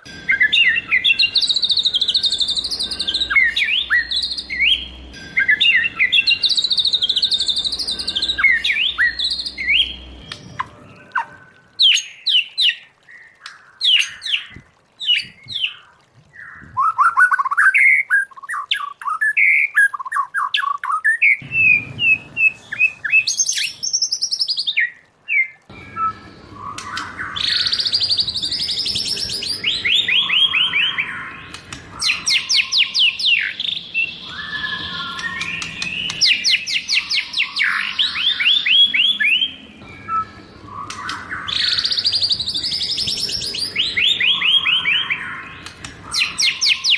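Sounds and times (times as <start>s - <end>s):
songbird whistling and trilling: 0.0s - 46.9s.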